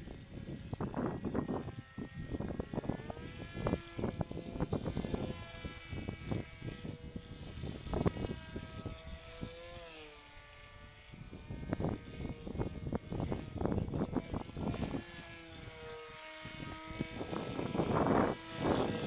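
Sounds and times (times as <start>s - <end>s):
model plane propeller whining: 0.0s - 19.0s
wind buffeting microphone: 0.0s - 19.0s.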